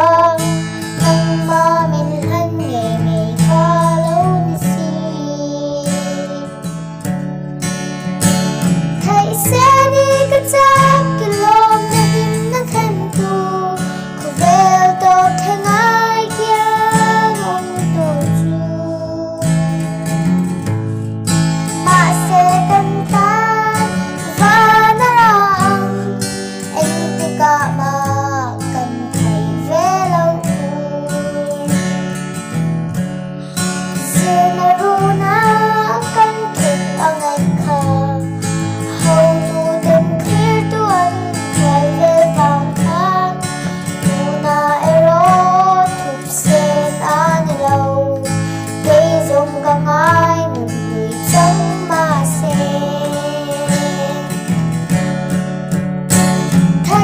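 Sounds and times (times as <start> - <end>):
girl singing: 0.0 - 7.1, 8.4 - 32.6, 33.4 - 55.1, 56.2 - 57.0
strummed acoustic guitar: 0.0 - 57.0.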